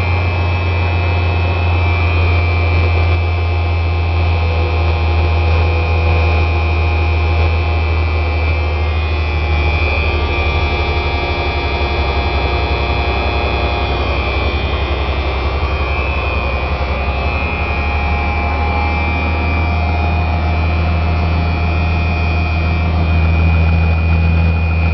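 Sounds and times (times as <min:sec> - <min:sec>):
steady high whine: 0:00.0 - 0:24.9
truck diesel engine rumbling: 0:00.0 - 0:24.9.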